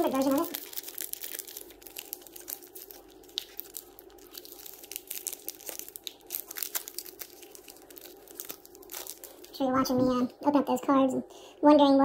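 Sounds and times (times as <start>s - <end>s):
foil pack wrapper crinkling: 0.0s - 9.6s
faint steady hum: 0.0s - 12.0s.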